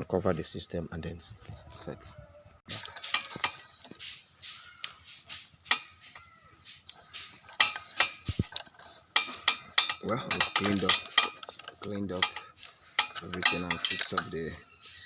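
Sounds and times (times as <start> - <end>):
metal tools clinking and scraping: 2.7 - 15.0.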